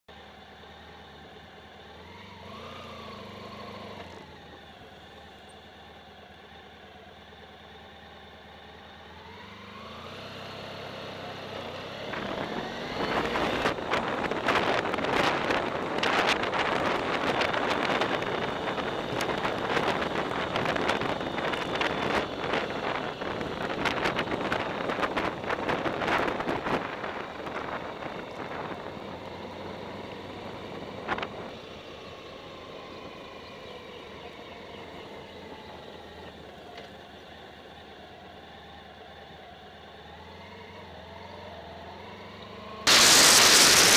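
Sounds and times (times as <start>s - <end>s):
bike road noise: 0.1s - 43.9s
motorcycle engine pulling away: 0.2s - 43.9s.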